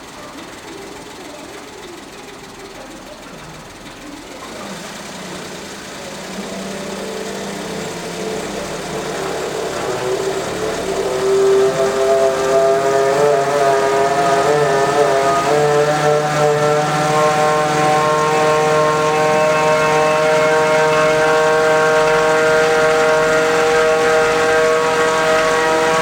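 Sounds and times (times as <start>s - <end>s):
whining mechanical moan: 0.0s - 26.0s.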